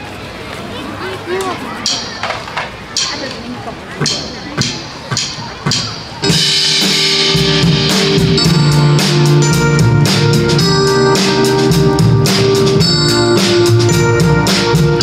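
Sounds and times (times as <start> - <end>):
live band playing: 1.3 - 15.0.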